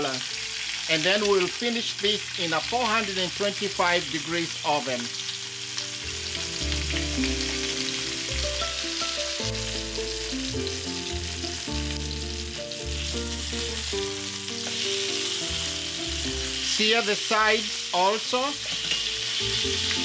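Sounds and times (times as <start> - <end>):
background music with low notes: 0.0 - 20.0
meat sizzling in a pan: 0.0 - 20.0.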